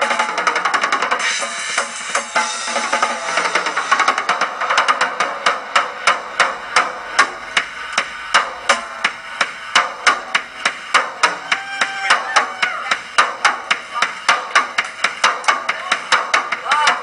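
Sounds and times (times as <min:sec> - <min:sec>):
drum solo: 0:00.0 - 0:17.0
cymbal crashes: 0:01.2 - 0:15.1.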